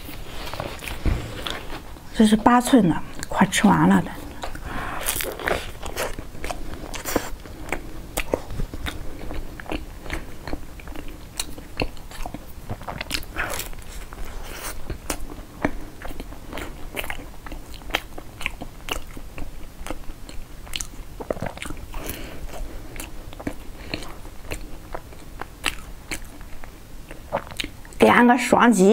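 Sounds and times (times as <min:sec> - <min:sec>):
chewing flaky pastry: 0:03.1 - 0:28.5.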